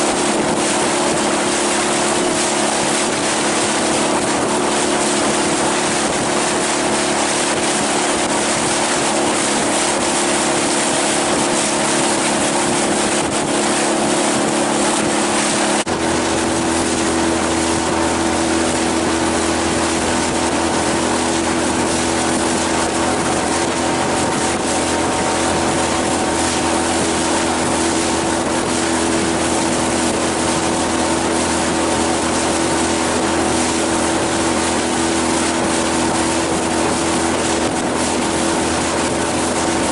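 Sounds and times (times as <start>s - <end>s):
heavy wind: 0.0s - 39.9s
outboard motor running: 0.0s - 39.9s
water rushing: 0.0s - 39.9s.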